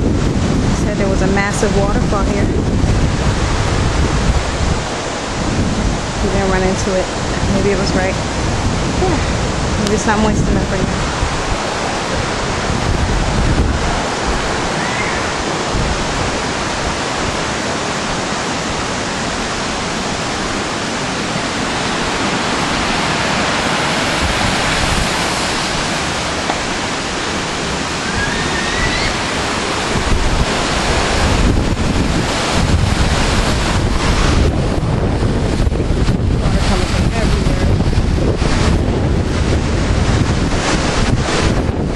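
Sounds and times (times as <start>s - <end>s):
waterfall roaring: 0.0s - 41.9s
wind buffeting microphone: 0.0s - 41.9s.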